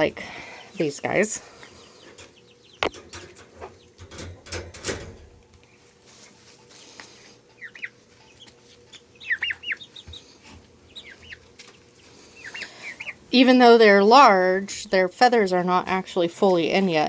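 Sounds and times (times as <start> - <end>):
poultry peeping: 0.0 - 17.0.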